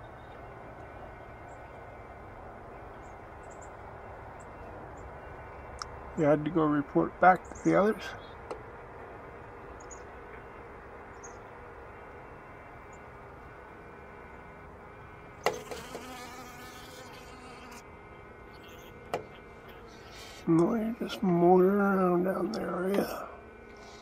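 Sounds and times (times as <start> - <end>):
honeybees humming in hive: 0.0 - 24.0.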